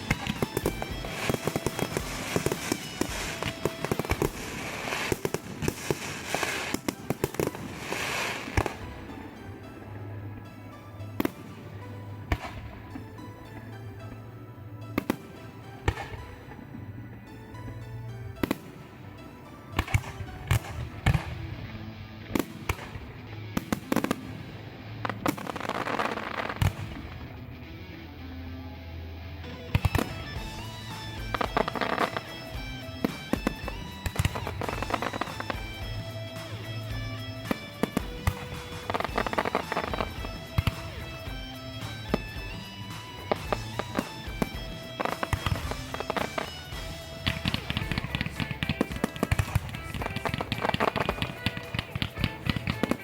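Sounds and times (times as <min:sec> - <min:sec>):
fireworks hiss: 0:00.0 - 0:13.6, 0:18.4 - 0:27.3, 0:29.6 - 0:53.0
fireworks bangs and crackles: 0:00.0 - 0:27.5, 0:29.5 - 0:53.0
background music: 0:00.0 - 0:53.0.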